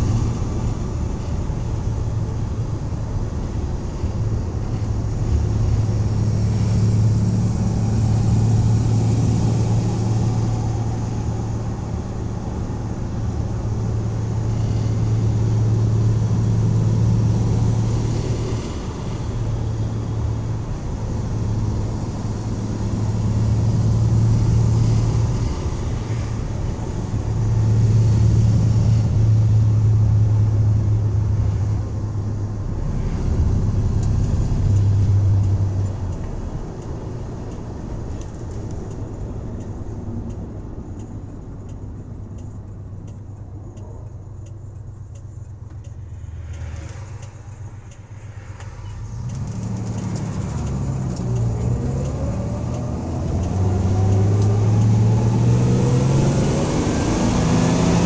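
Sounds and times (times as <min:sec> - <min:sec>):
road noise: 0:00.0 - 0:58.0
van engine droning: 0:00.0 - 0:58.0.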